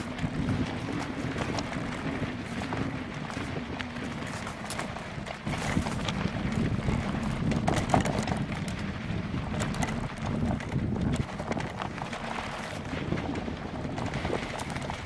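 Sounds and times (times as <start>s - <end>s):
bicycle clicks and rattles: 0.0s - 15.0s
wind buffeting microphone: 0.0s - 15.0s.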